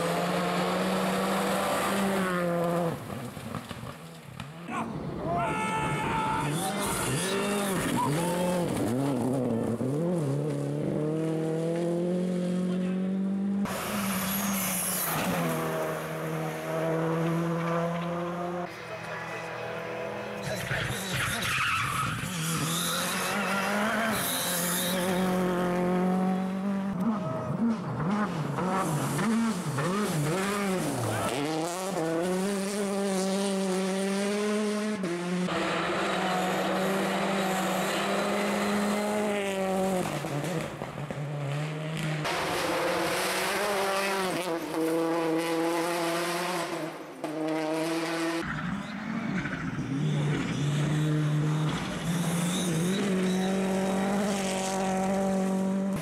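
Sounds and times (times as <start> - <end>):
rally car engines revving: 0.0 - 5.2, 5.9 - 56.0.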